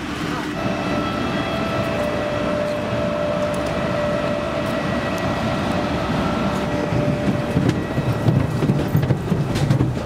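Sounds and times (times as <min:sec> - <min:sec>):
jet whine: 0:00.0 - 0:09.8
aircraft machinery rumble: 0:00.0 - 0:10.0.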